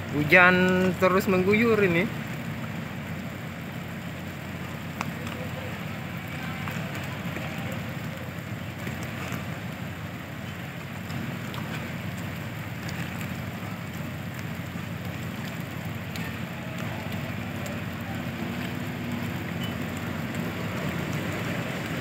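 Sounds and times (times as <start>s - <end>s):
heavy rain pouring: 0.0s - 22.0s
raindrop ticks: 0.0s - 22.0s.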